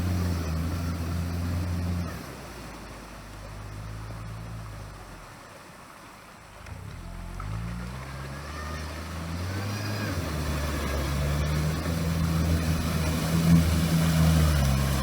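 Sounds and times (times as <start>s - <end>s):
all-terrain vehicle engine: 0.0s - 15.0s.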